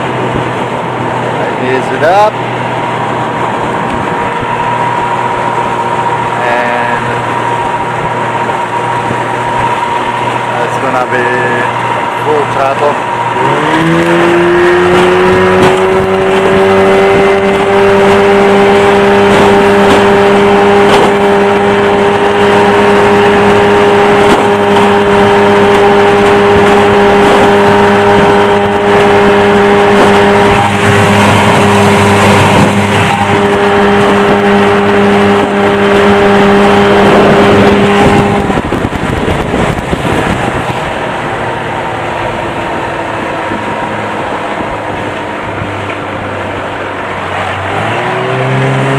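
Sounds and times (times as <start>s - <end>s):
outboard motor at full throttle: 0.0s - 48.9s.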